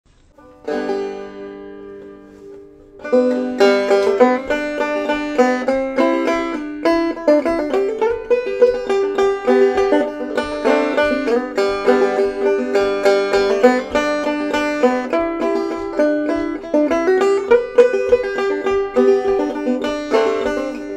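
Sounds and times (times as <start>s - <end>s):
banjo playing: 0.1s - 20.9s.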